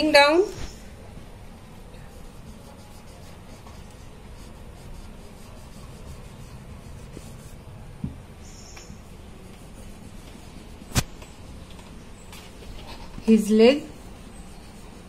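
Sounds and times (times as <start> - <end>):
marker pen writing on whiteboard: 2.0 - 8.2, 8.8 - 15.0.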